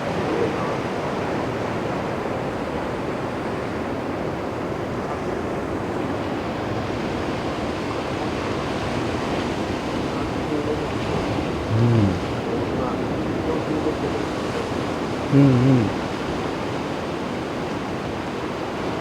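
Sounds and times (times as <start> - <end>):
sea surf washing: 0.0 - 19.0.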